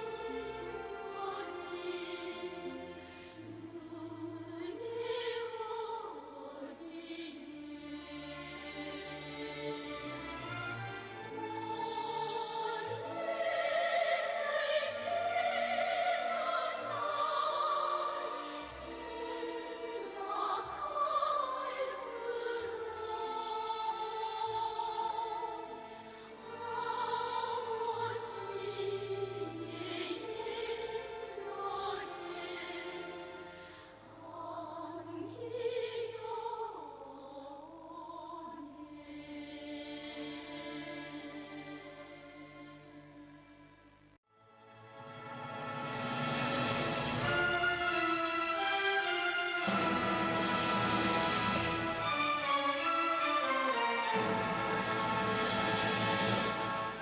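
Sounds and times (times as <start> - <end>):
orchestral strings: 0.0 - 37.3, 37.9 - 57.0
operatic singing: 0.0 - 43.2, 45.4 - 57.0.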